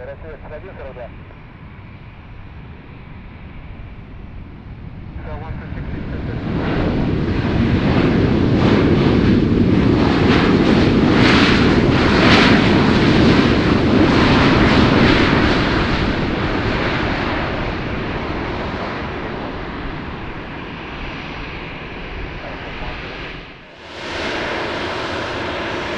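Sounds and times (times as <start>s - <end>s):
jet airliner passing: 0.0s - 25.9s.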